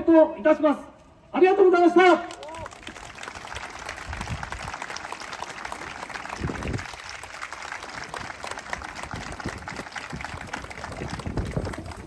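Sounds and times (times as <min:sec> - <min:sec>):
crowd applauding: 0:02.2 - 0:12.0.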